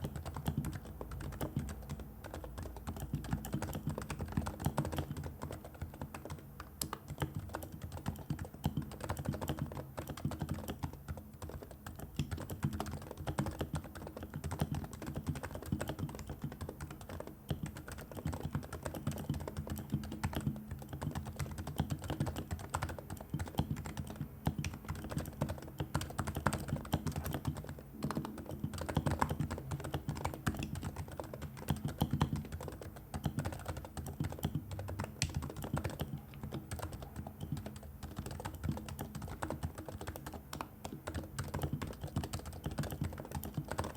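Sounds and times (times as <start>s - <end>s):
fast muted keyboard typing: 0.0s - 43.9s.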